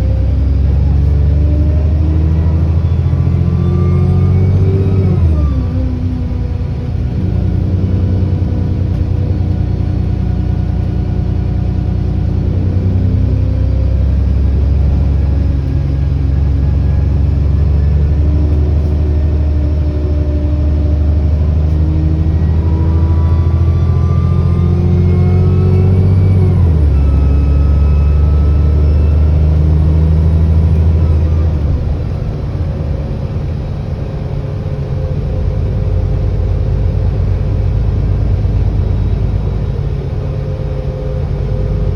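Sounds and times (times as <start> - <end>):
bus diesel engine accelerating: 0.0 - 41.9
turbo whine: 0.0 - 41.9.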